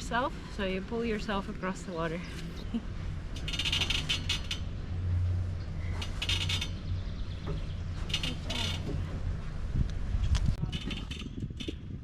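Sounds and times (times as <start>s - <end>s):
ferry pulling gear clinking and creaking: 2.2s - 12.0s.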